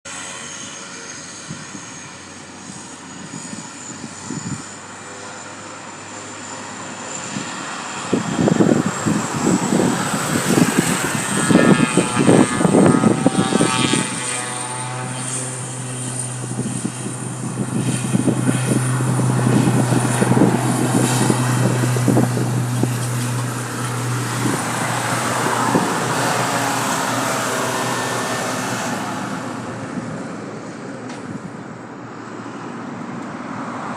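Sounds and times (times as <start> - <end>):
propeller drone: 0.0 - 33.9
turbine whine: 0.1 - 33.9.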